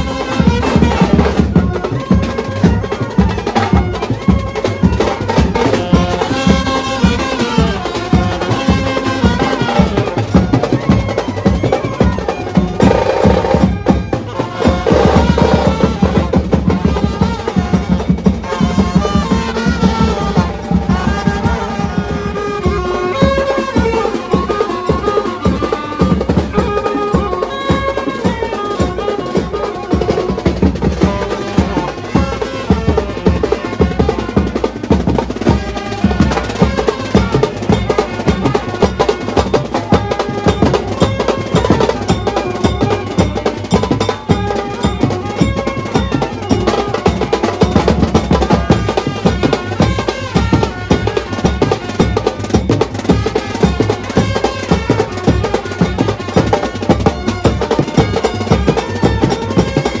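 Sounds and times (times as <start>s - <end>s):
brass band playing: 0.0s - 60.0s
rhythmic drum beat: 0.0s - 60.0s
saxophones and trumpets: 0.0s - 60.0s.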